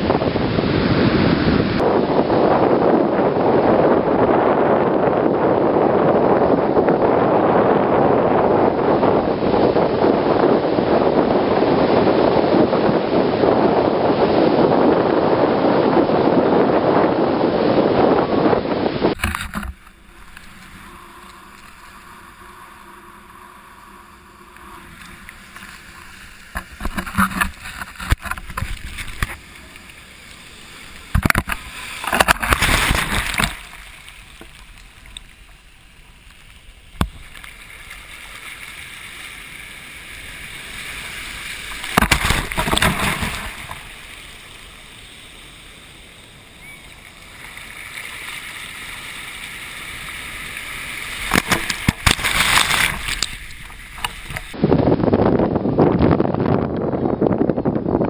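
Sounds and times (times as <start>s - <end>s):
stormy waves breaking on shore: 0.0s - 58.0s.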